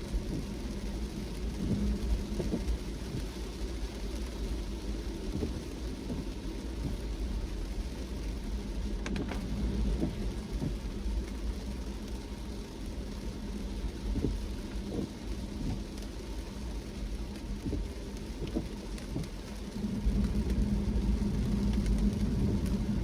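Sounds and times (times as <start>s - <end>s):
deep engine rumble: 0.0s - 23.0s
rain and road noise: 0.0s - 23.0s.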